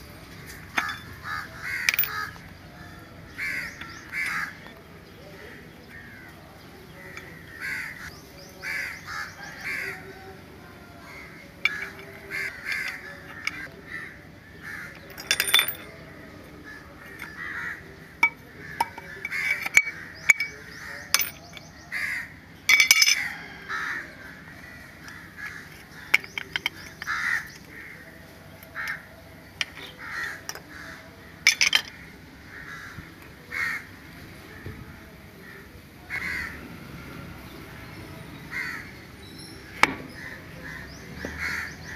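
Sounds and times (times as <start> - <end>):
crows cawing: 0.4 - 4.7, 5.3 - 10.3, 11.0 - 15.1, 16.5 - 21.0, 21.8 - 22.4, 23.0 - 34.7, 35.4 - 36.6, 38.5 - 39.0, 40.1 - 41.9.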